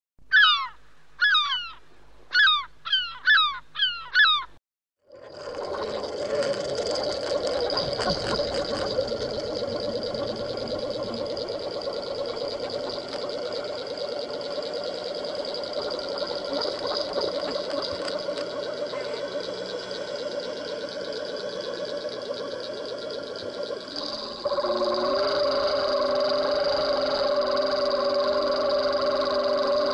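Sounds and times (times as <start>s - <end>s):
constant hum: 5.0s - 29.9s
water rushing underwater: 5.0s - 29.9s.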